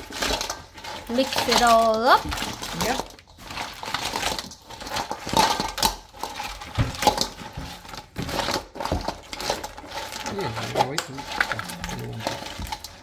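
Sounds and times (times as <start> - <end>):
crab shells crunching in a bowl: 0.0 - 13.0.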